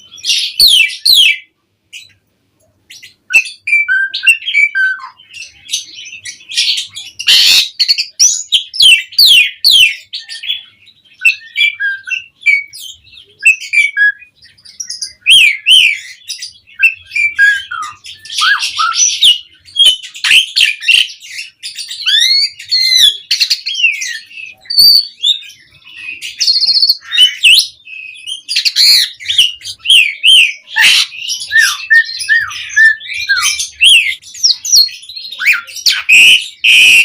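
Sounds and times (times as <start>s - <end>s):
starling singing: 0.0s - 2.3s, 2.9s - 37.0s
harsh rasping bird calls: 2.8s - 37.0s.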